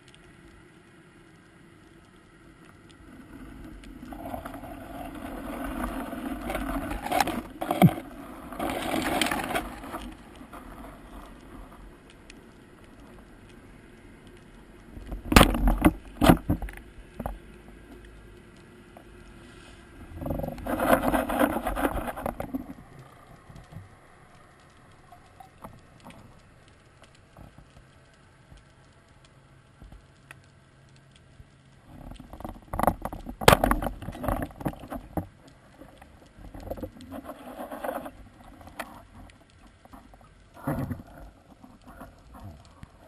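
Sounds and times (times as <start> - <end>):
underwater swishing and rustling: 0.0 - 43.0.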